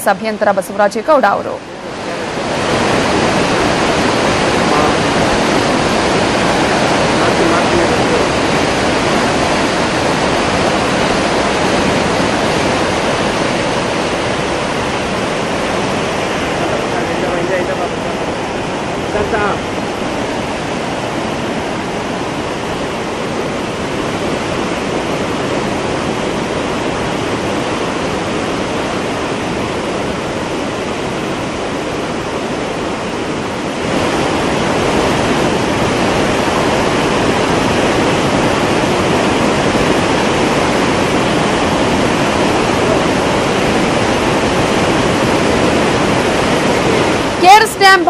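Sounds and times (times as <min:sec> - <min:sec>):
water rushing through dam gates: 0:00.0 - 0:48.0.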